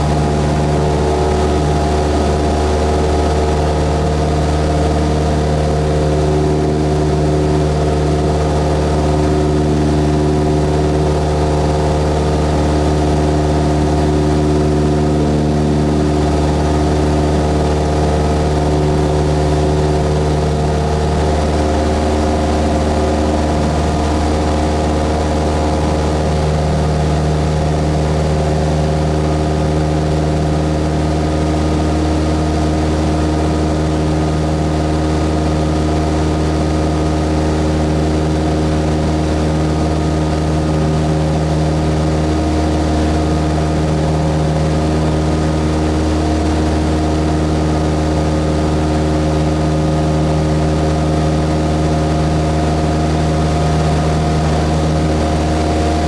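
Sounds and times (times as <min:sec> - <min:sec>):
airplane engine droning: 0:00.0 - 0:56.0.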